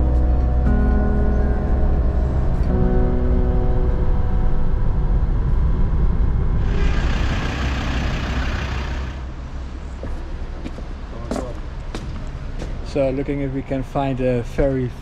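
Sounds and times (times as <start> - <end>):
heavy vehicle engine rumble: 0.0 - 15.0.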